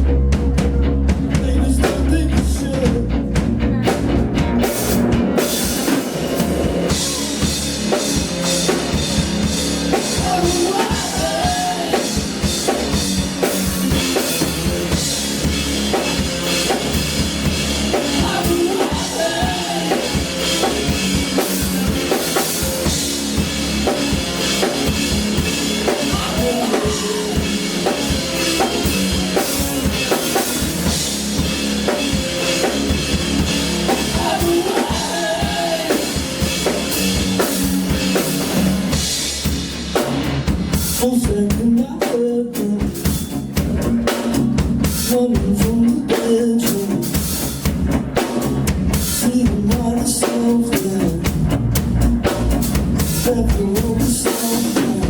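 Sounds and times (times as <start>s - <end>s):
live band music: 0.0s - 55.0s.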